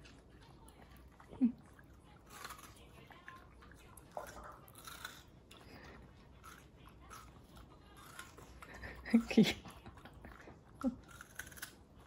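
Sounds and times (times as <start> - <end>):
dog chewing watermelon: 0.0 - 12.0.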